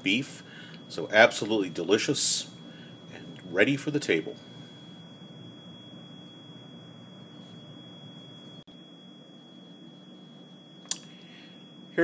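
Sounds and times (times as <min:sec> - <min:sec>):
high steady whine: 0:00.0 - 0:12.0.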